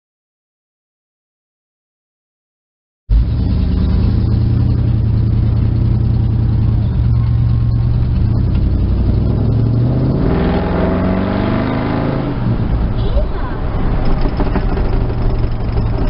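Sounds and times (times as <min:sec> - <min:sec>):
car engine humming from inside: 0:03.1 - 0:16.0.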